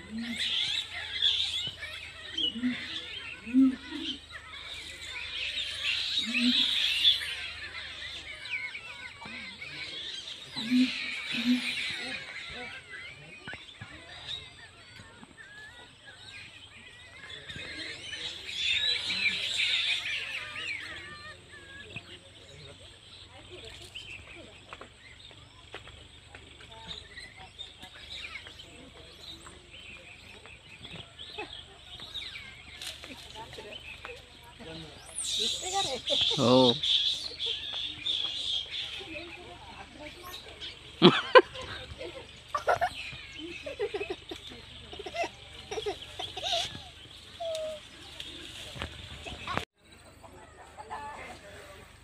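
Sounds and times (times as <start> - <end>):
birds chirping and twittering: 0.0 - 52.0.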